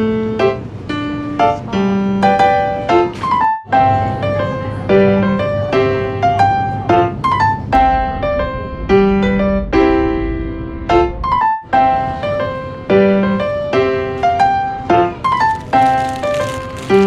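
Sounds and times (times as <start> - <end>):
solo piano melody: 0.0 - 8.9, 11.8 - 17.0.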